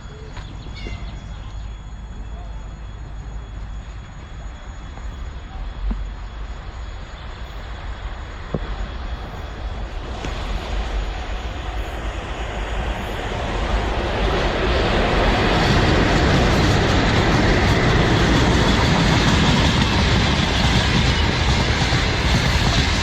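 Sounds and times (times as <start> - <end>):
freight train rumble and rail noise: 0.0 - 23.0.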